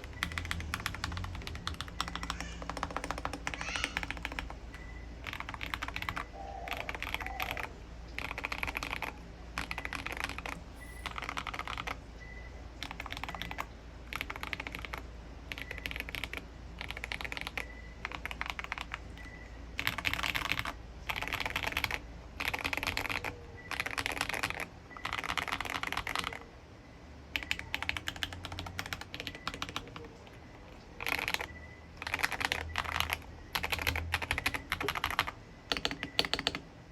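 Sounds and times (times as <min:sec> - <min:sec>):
mechanical keyboard typing: 0:00.0 - 0:12.0, 0:12.8 - 0:26.5, 0:27.3 - 0:36.7.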